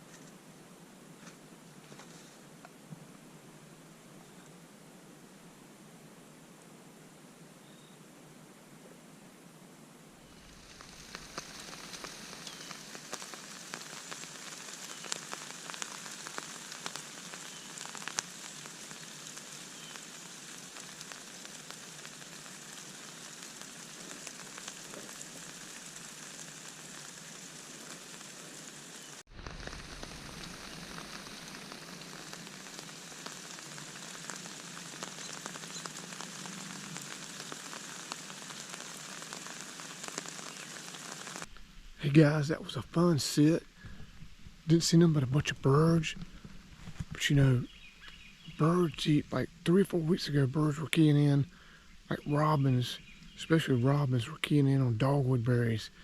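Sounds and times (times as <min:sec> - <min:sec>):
light rain pattering: 0:00.0 - 0:04.7, 0:10.0 - 0:56.0
raindrops ticking: 0:10.3 - 0:55.2.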